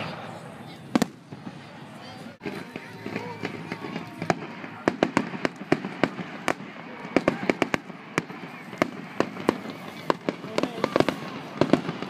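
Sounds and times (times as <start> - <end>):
fireworks bangs and pops: 0.0 - 1.7, 2.4 - 12.0.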